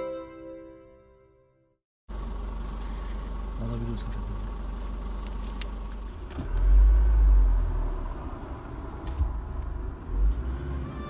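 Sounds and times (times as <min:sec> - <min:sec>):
vehicle cabin rumble: 0:02.1 - 0:11.0.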